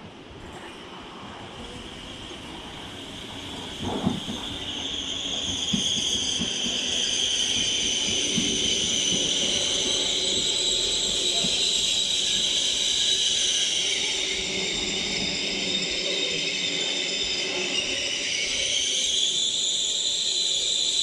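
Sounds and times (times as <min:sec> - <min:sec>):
train wheels rumbling: 0:00.0 - 0:21.0
train brakes squealing: 0:00.4 - 0:21.0.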